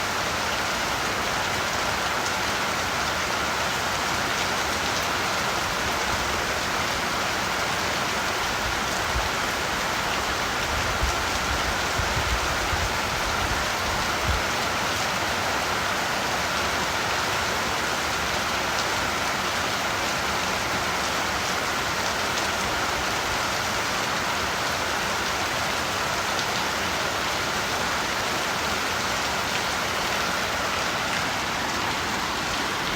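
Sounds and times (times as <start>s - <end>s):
rain falling on surfaces: 0.0s - 32.9s.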